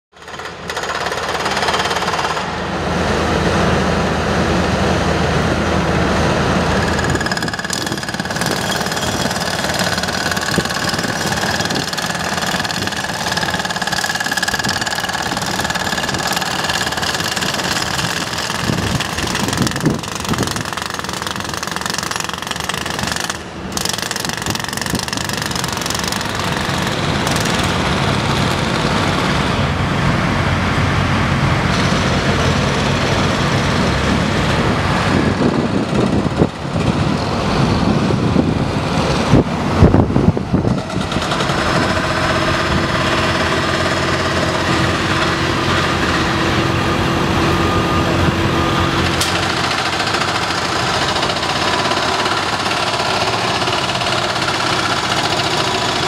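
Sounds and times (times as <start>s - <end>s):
jackhammer pounding: 0.1s - 2.7s, 6.4s - 29.8s, 31.6s - 37.2s, 40.6s - 56.0s
construction machinery diesel engines: 0.1s - 56.0s.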